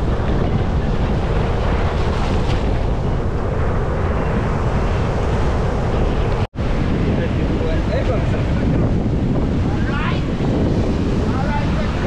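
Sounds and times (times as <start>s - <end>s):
ocean surf breaking: 0.0s - 12.0s
wind buffeting the microphone: 0.0s - 12.0s.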